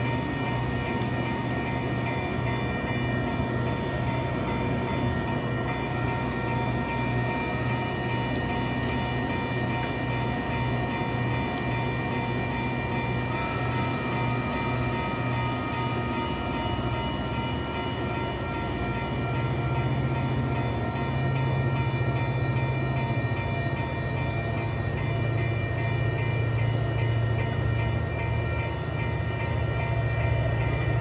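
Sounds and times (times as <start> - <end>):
train passing: 0.0 - 31.0.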